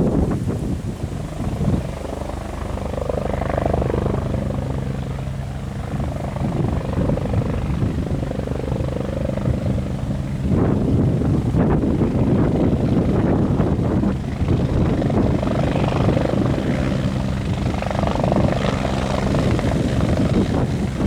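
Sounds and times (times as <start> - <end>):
helicopter rotor and turbine hum: 0.0 - 21.0
high turbine tone: 0.0 - 21.0.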